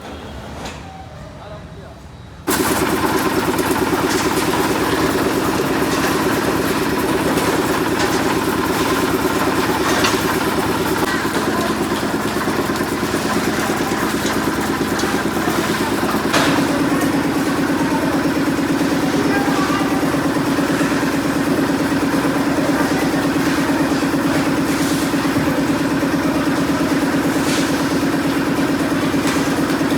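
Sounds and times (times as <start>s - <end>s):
construction machinery engine running: 2.4s - 29.9s
sharp knocks and clatter: 2.5s - 29.9s.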